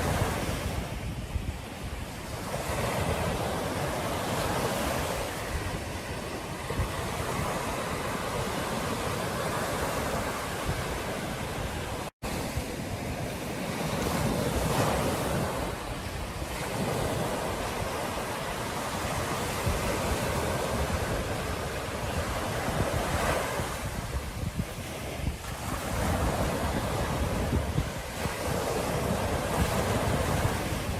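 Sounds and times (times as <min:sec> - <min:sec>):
surf breaking on a beach: 0:00.0 - 0:30.9
wind rumbling on microphone: 0:00.0 - 0:30.9.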